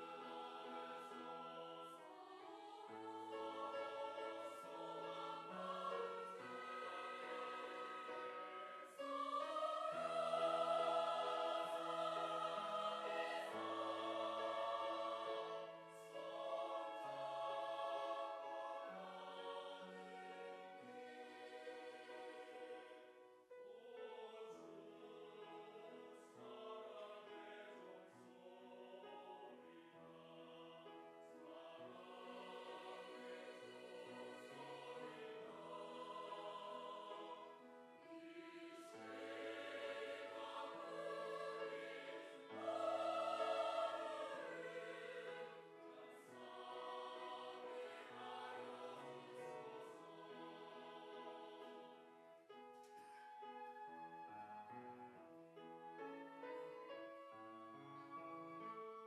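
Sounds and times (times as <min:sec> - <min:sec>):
church choir singing a hymn: 0:00.0 - 0:54.0
choir accompaniment: 0:00.0 - 0:59.0.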